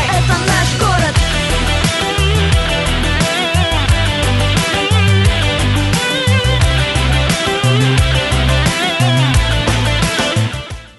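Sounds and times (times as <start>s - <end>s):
instrumental music with heavy bass: 0.0s - 10.9s.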